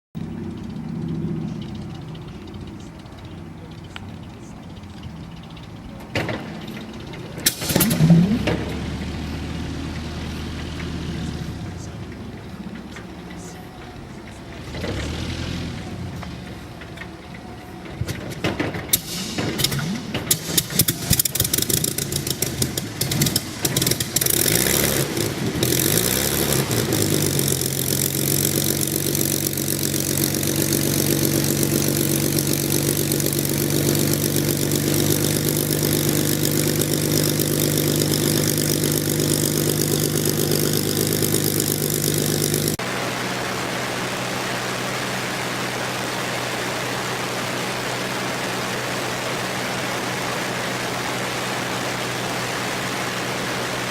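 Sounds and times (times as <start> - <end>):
aircraft engine starting and idling: 0.2 - 53.9.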